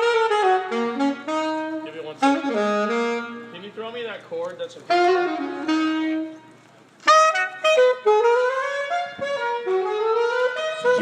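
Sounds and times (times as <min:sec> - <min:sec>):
solo saxophone: 0:00.0 - 0:03.9, 0:04.9 - 0:11.0.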